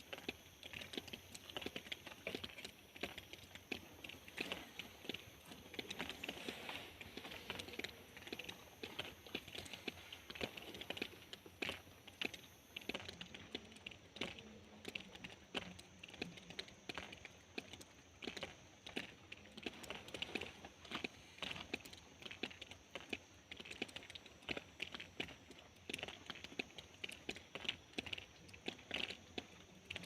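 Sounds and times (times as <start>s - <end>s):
rain drops dripping: 0.0s - 30.0s.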